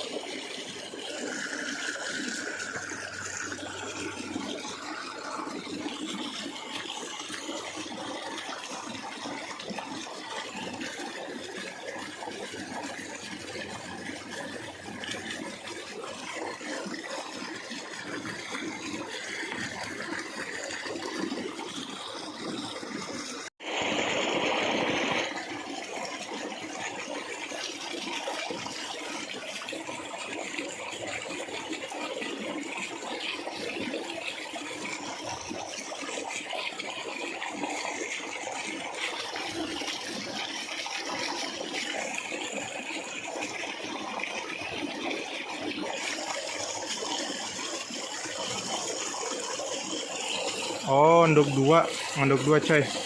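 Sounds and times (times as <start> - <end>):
running water: 0.0 - 53.0.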